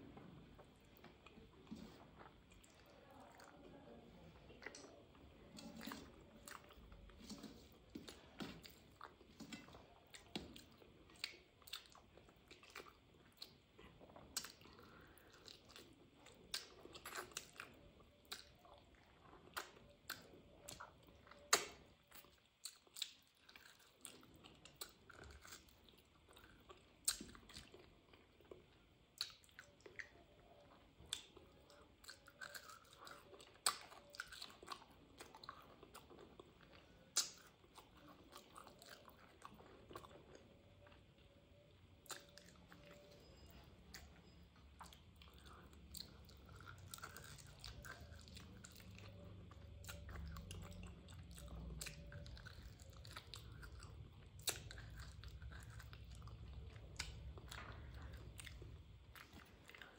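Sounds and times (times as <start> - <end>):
person chewing with mouth clicks: 0.0 - 3.8, 4.4 - 59.9.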